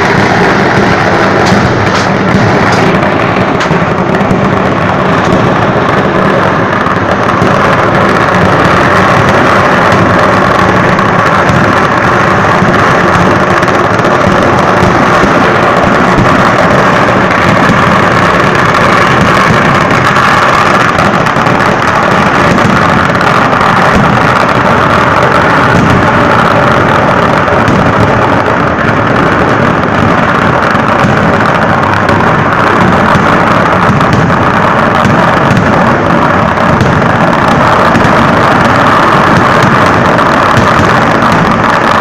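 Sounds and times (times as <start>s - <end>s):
firecracker explosions: 0.0s - 42.0s.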